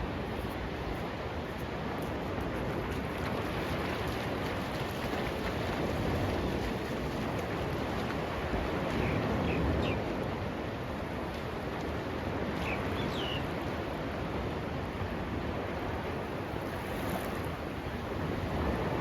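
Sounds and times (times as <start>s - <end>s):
sea surf: 0.0s - 19.0s
wind on microphone: 0.0s - 19.0s.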